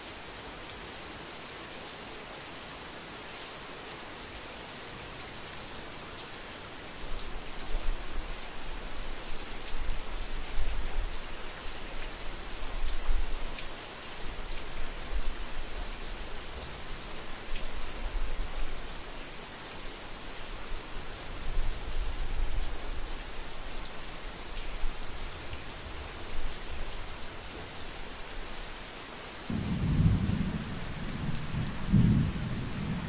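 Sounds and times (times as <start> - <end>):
heavy rain on a roof: 0.0 - 33.0.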